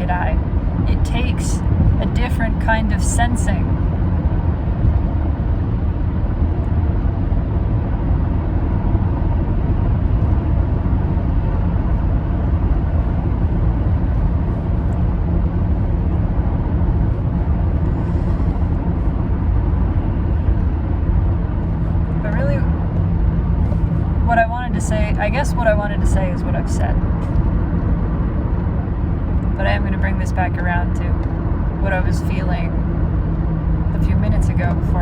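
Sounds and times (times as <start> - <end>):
low rumbling noise: 0.0 - 35.0.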